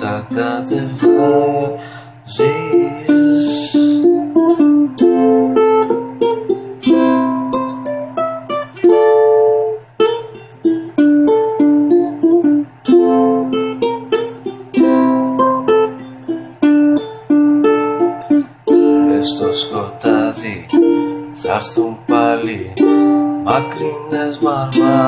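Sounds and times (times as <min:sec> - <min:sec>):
ukulele plucked notes and chords: 0:00.0 - 0:25.0.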